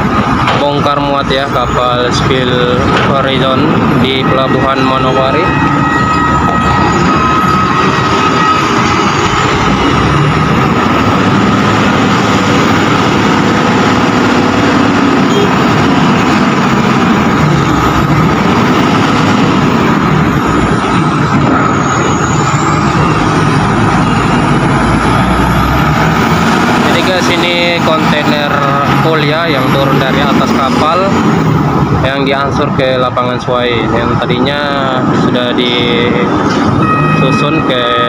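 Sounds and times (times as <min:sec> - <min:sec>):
heavy diesel engines droning: 0:00.0 - 0:38.0.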